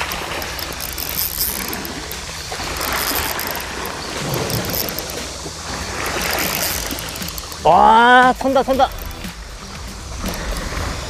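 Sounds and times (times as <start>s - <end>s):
fishing reel clicking: 0.0s - 11.0s
water washing: 0.0s - 11.0s.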